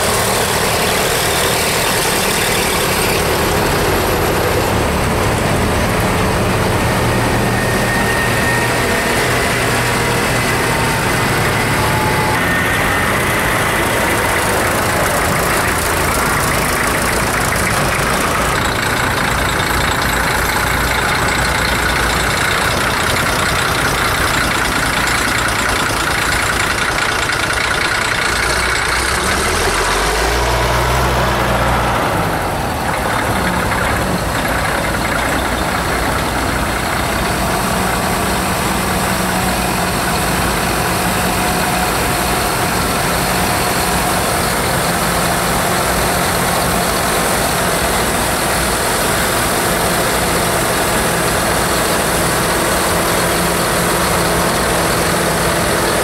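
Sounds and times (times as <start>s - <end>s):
tractor diesel engines: 0.0s - 56.0s
tractor passing with low hum: 0.0s - 56.0s.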